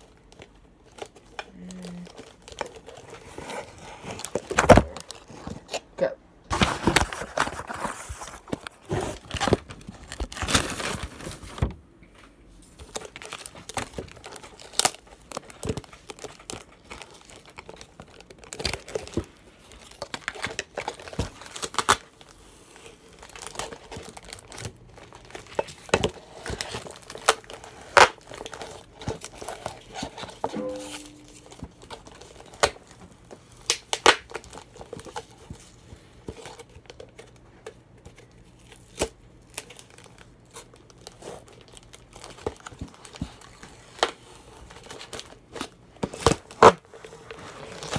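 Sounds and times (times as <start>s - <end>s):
duct tape crinkling: 0.0s - 5.9s, 6.5s - 47.9s.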